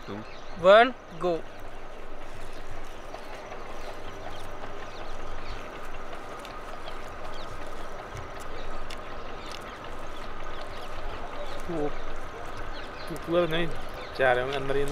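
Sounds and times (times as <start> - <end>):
water pump droning: 0.0 - 14.9.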